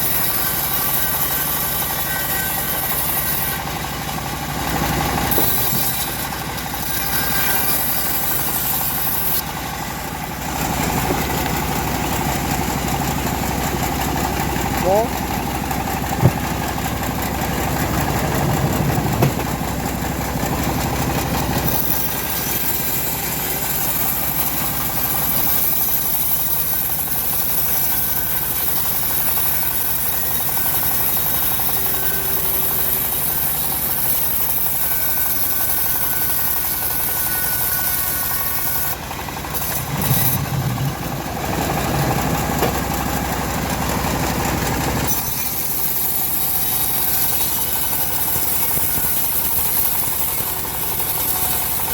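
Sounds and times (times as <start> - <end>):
bandsaw sawmill running: 0.0 - 51.9.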